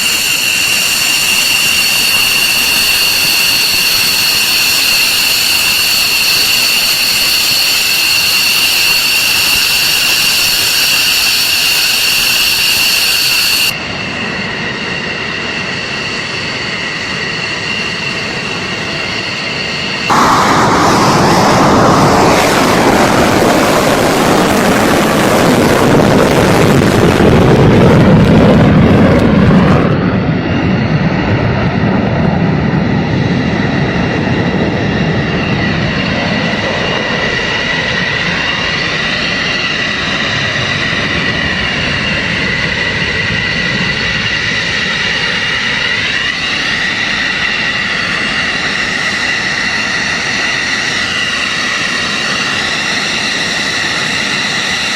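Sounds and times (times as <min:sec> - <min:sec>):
jet roar passing: 0:00.0 - 0:54.9
jet turbine whine: 0:00.0 - 0:54.9.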